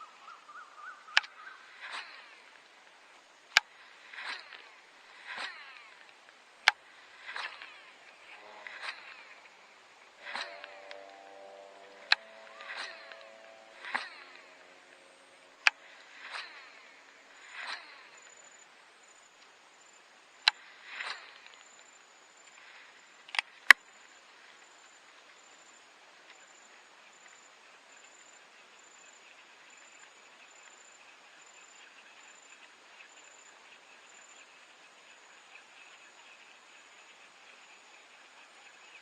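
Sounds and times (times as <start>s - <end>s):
insects buzzing faintly: 0.0s - 39.0s.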